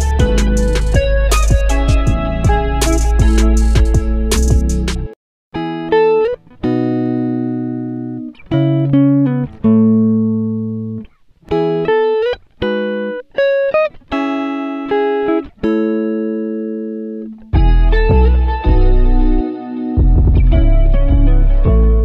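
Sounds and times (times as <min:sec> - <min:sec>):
guitar chords ringing out: 0:00.0 - 0:22.0.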